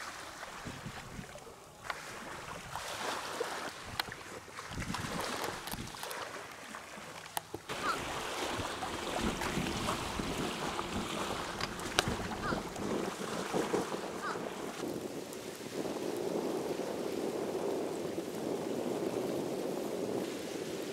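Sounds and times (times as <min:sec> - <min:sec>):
wind buffeting microphone: 0:00.0 - 0:06.6, 0:07.6 - 0:20.9
small waves lapping on sand: 0:00.0 - 0:20.9.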